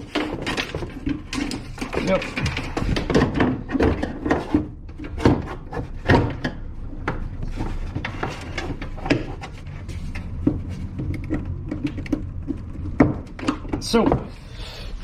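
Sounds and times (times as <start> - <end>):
wiper mechanism knocking and scraping: 0.0 - 15.0.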